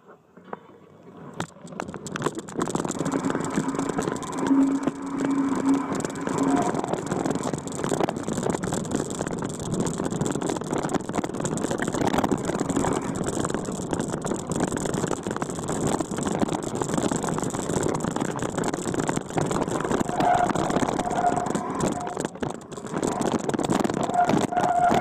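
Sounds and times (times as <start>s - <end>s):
vehicle engine: 1.2s - 25.0s
knocks and rattles: 1.4s - 25.0s.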